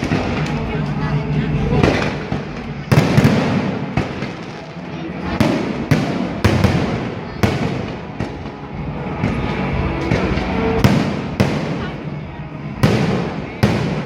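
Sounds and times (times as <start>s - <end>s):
aerial fireworks bursting: 0.0s - 14.0s.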